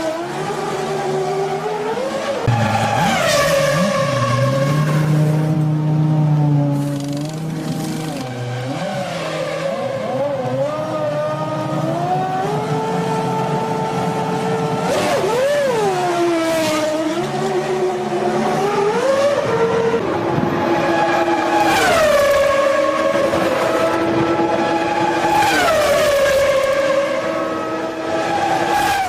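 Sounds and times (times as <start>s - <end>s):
racing car engines revving: 0.0s - 29.0s.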